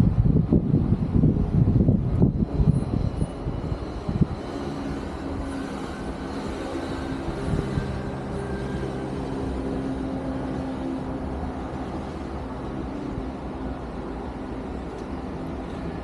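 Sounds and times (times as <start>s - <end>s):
heavy mechanical rumble with hum: 0.0s - 16.0s.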